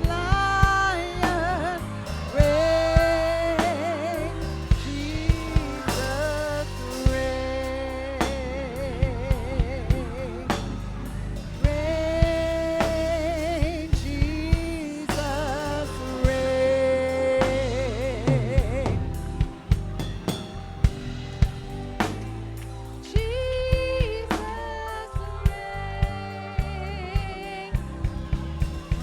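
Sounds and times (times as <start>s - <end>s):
person singing with vibrato: 0.0s - 19.8s, 23.0s - 29.0s
drum kit hits: 0.0s - 29.0s
keyboard and bass: 0.0s - 29.0s.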